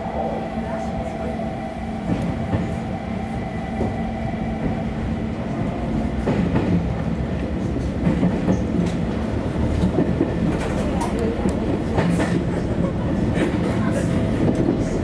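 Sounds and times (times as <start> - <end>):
railcar drive hum: 0.0 - 15.0.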